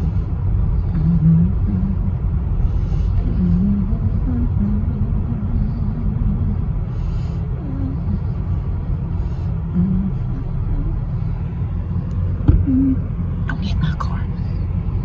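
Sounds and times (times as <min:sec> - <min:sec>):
car engine low rumble: 0:00.0 - 0:15.0
road noise: 0:00.0 - 0:15.0.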